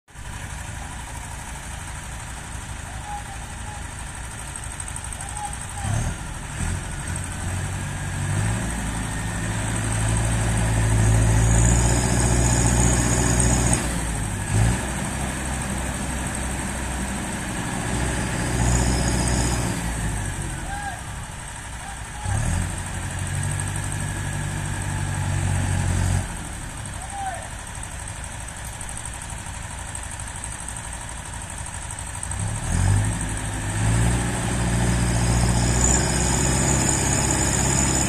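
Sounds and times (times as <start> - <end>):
tractor diesel engine revving: 3.4 - 38.0.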